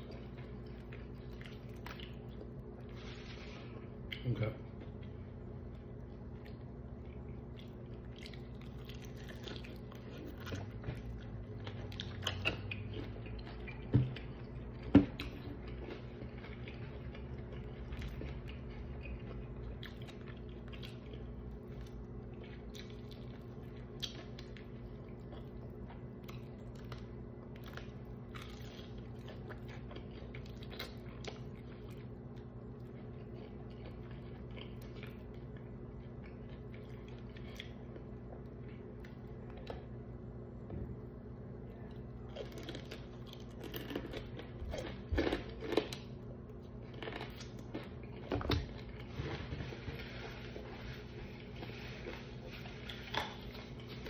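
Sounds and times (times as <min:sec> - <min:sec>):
person chewing crunchy food: 0:00.0 - 0:40.1, 0:41.8 - 0:54.0.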